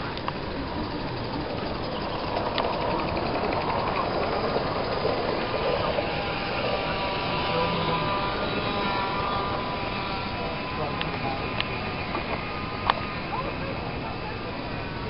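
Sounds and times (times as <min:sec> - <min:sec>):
droning tones: 0:00.0 - 0:15.0
fast regular ticking: 0:00.0 - 0:15.0.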